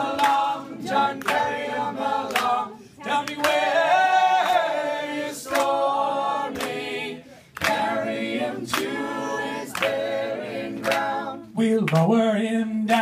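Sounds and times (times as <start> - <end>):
hand clap keeping time: 0.0 - 7.0, 7.6 - 11.2, 11.8 - 12.2
group singing in harmony: 0.0 - 11.8.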